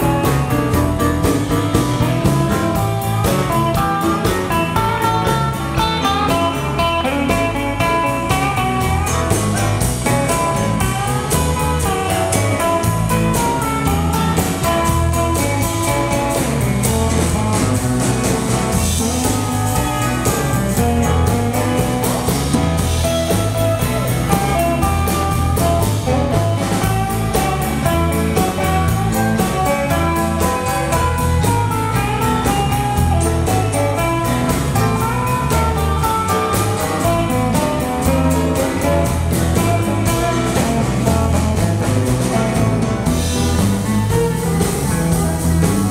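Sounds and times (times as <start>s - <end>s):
bass guitar: 0.0s - 45.9s
drum kit: 0.0s - 45.9s
lead electric guitar: 0.0s - 45.9s.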